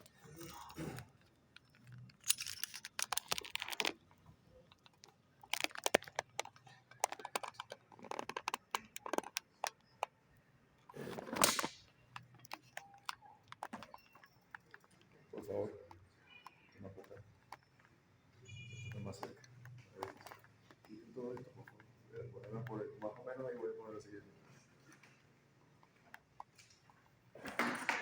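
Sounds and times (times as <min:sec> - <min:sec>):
hard objects clicking and clattering: 0:00.0 - 0:10.2, 0:10.8 - 0:23.7.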